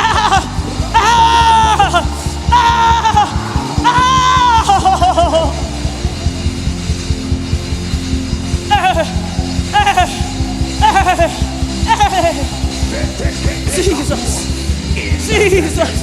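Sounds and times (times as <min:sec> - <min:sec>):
instrumental worship music: 0:00.0 - 0:16.0
steady drum beat: 0:00.0 - 0:16.0.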